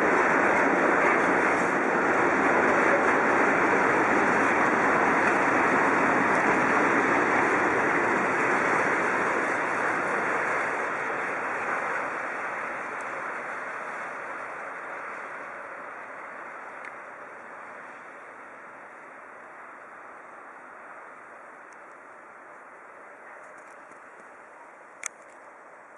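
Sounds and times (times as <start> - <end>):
freight train rolling on rails: 0.0 - 25.9.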